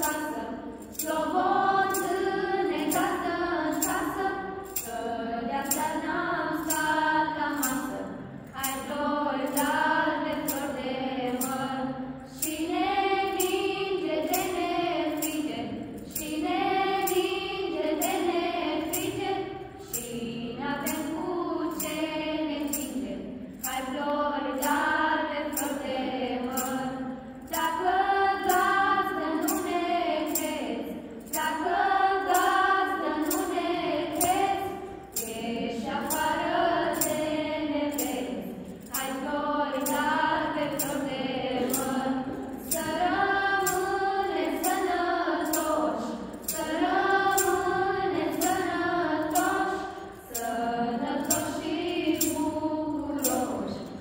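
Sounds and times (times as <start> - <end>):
choir singing a carol: 0.0 - 54.0
jingling beat: 0.0 - 54.0.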